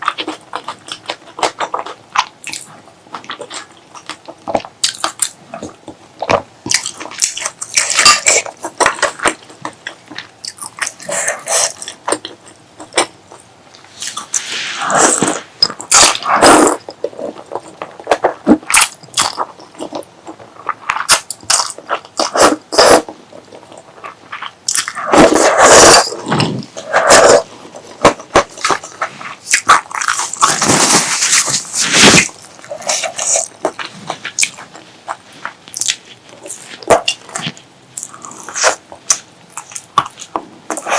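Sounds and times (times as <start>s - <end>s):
noisy mouth sounds: 0.0s - 40.9s
sharp crackles of food: 0.0s - 40.9s
wet chewing and biting: 0.0s - 40.9s.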